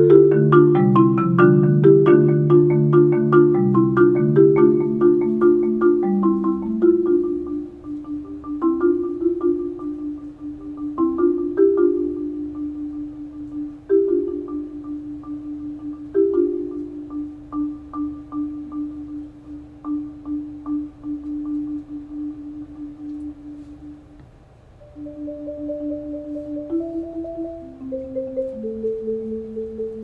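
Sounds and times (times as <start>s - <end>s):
solo marimba: 0.0s - 24.2s, 24.8s - 30.0s.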